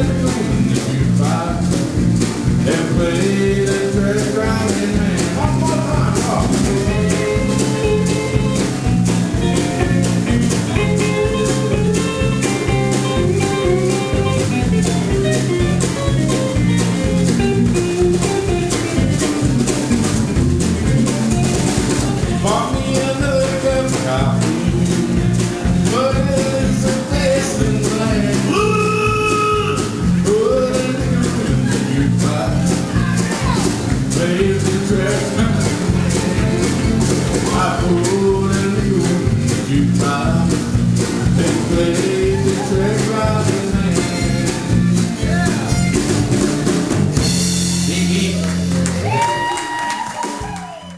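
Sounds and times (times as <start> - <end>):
lead guitar with bent notes: 0.0 - 49.8
bass: 0.0 - 50.9
drum beat: 0.0 - 50.9.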